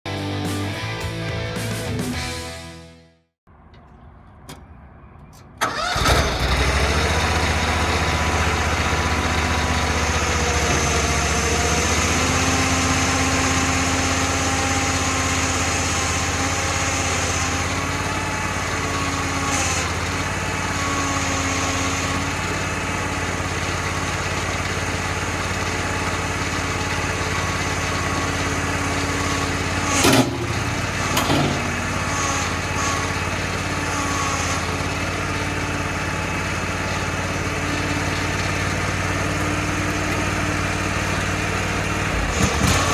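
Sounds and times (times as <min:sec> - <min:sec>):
small engine starting and idling: 0:05.5 - 0:42.9.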